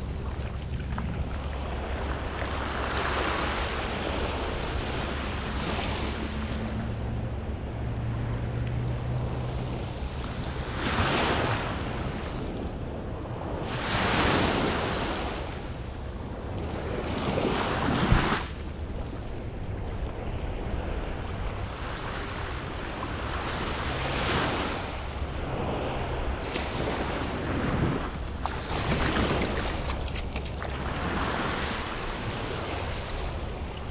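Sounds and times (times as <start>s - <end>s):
small waves breaking on sand: 0.0s - 12.5s, 13.2s - 33.9s
wind rumble on microphone: 0.0s - 33.9s.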